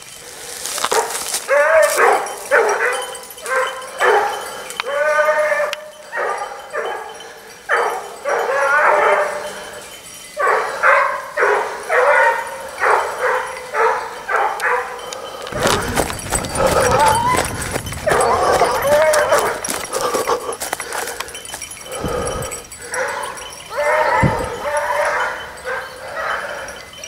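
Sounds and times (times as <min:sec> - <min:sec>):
hounds baying: 0:00.3 - 0:27.0.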